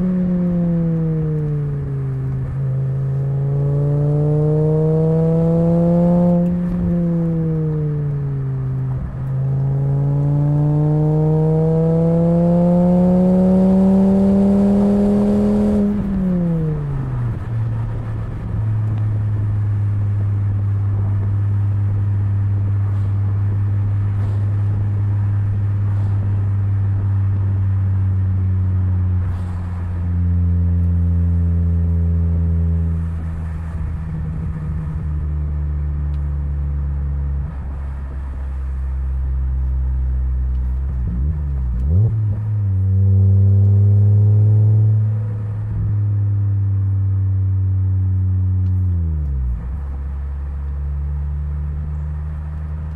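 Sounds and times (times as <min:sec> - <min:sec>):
car engine revving: 0:00.0 - 0:38.8, 0:39.6 - 0:52.9.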